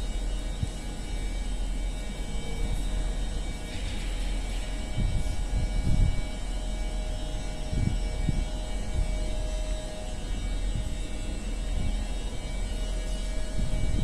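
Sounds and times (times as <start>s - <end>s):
train equipment humming: 0.0s - 14.0s.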